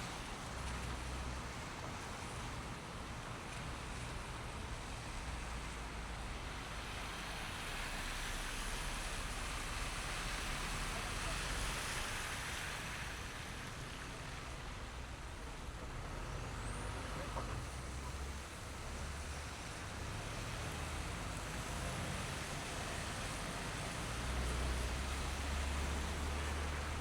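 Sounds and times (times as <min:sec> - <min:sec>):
tyres hissing through wet snow: 0:05.3 - 0:27.0.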